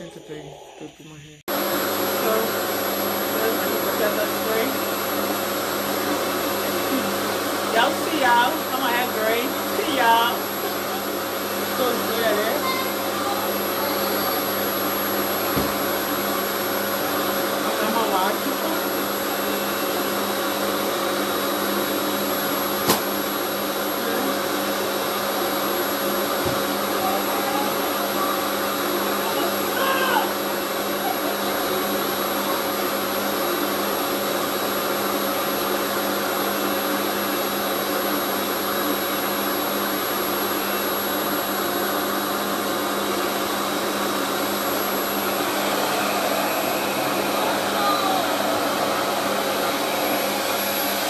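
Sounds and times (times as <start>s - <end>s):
hair dryer running: 1.5s - 51.0s.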